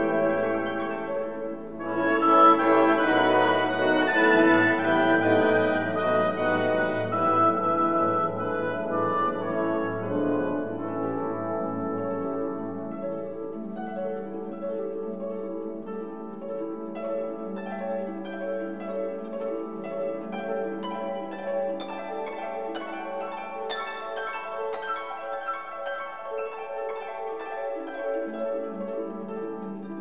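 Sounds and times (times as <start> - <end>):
held string-like notes: 0.0 - 30.0
plucked harp-like notes: 0.0 - 30.0.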